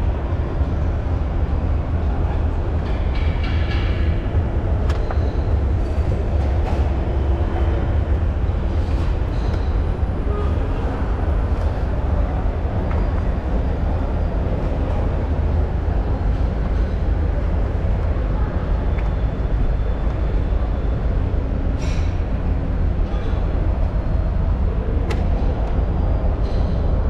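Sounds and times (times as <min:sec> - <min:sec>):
railway station rumble: 0:00.0 - 0:27.0.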